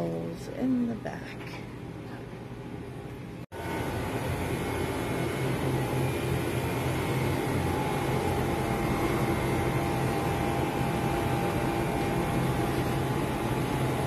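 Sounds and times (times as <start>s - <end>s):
refrigerated display cases humming: 0.0s - 14.0s.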